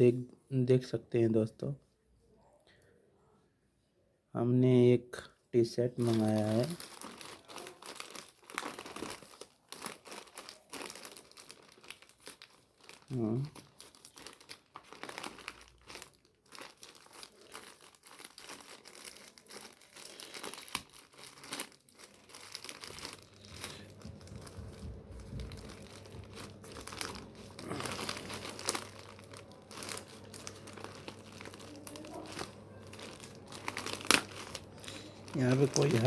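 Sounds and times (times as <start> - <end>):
packaging crinkling: 6.0 - 36.0
packaging tearing: 6.0 - 36.0.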